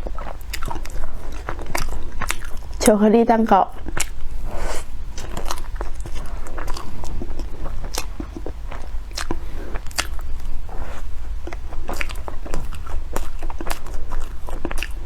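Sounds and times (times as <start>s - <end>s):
chewing with wet mouth clicks: 0.0s - 3.0s, 3.7s - 15.0s.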